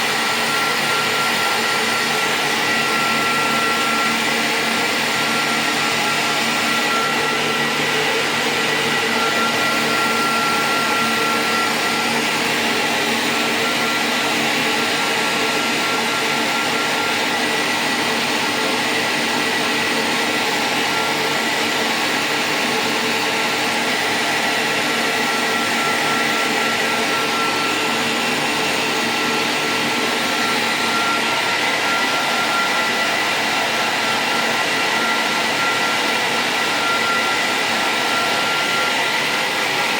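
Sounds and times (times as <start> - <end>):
cooling fans running: 0.0 - 39.9
high steady whine: 0.0 - 39.9.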